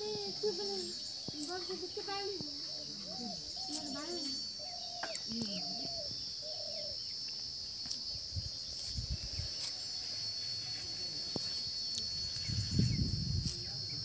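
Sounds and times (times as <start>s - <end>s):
high-pitched insect drone: 0.0s - 14.0s
faint bird chirps: 0.1s - 13.2s.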